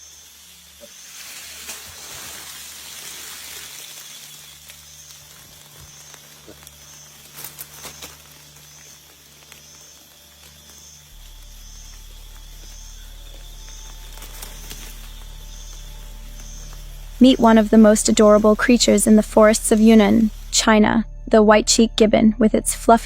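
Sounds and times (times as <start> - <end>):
steady high hiss: 0.0 - 20.9
low hum: 0.0 - 23.0.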